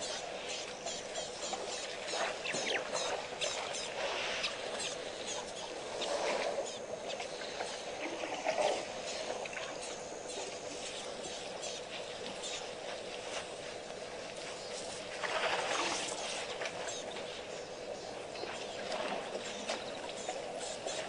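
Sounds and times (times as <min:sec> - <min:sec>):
high chirps and ticks: 0:00.0 - 0:15.2, 0:16.0 - 0:21.0
faint steady hum: 0:00.0 - 0:21.0.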